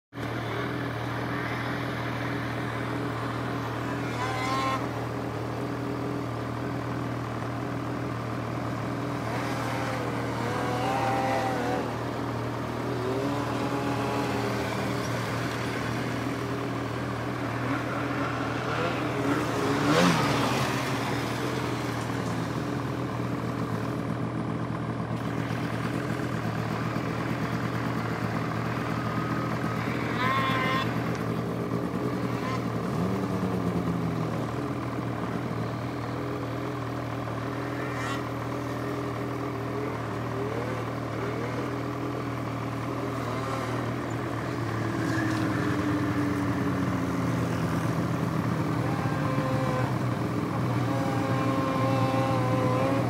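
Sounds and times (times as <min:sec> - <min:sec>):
snowmobile engine idling: 0:00.2 - 0:53.0
snowmobiles revving: 0:00.2 - 0:53.0.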